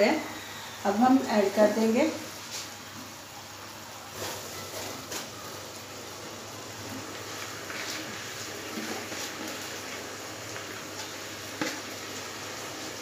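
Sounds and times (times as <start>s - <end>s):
sugar syrup bubbling in a pan: 2.5s - 13.0s.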